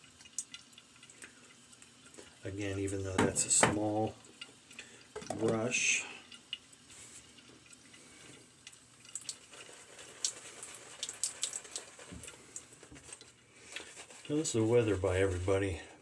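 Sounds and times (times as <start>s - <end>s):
shaving brush lathering soap: 0.0s - 16.0s.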